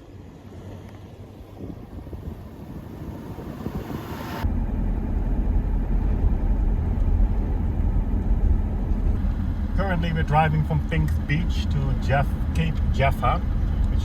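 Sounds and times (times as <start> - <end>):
vehicle engine and tyres rumbling: 0.0 - 14.0
soft rushing noise: 0.4 - 14.0.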